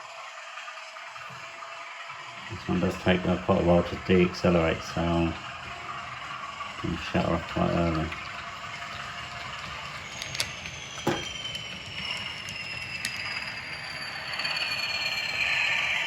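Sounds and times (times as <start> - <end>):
model locomotive whine falling: 0.0 - 16.0.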